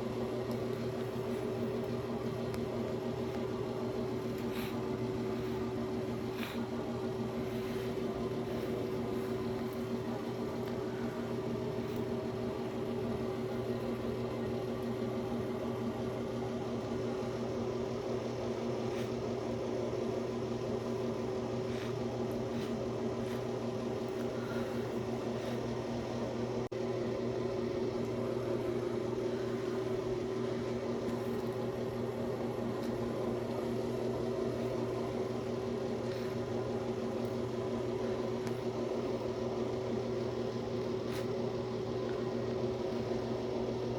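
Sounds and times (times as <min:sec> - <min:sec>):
mechanical hum with low drone: 0:00.0 - 0:43.9.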